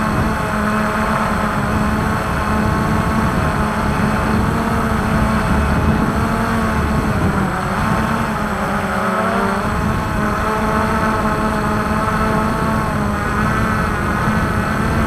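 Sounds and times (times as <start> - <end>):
drone motors whirring: 0.0 - 15.0.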